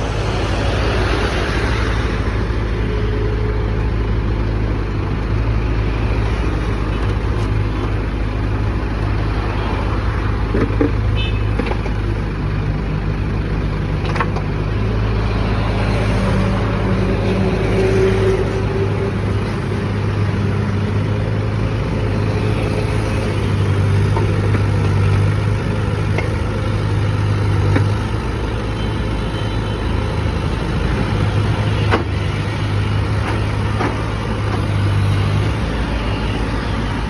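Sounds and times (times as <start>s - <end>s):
heavy vehicle engine running: 0.0s - 37.0s.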